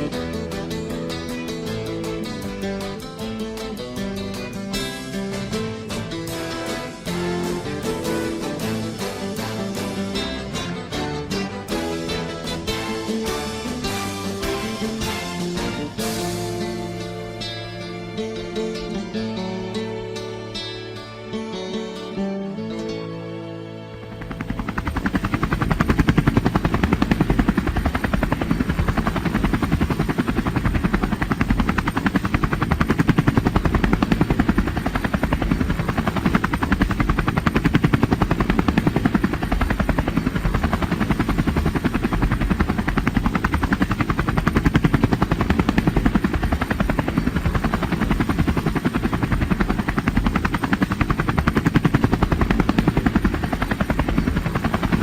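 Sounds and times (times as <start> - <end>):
helicopter rotor drone: 0.0 - 21.4, 23.7 - 55.0.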